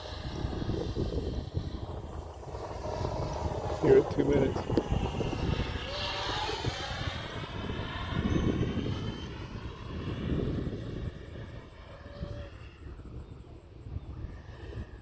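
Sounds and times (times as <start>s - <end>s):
model jet fan whining: 0.0s - 15.0s
wind rumble on microphone: 0.0s - 15.0s.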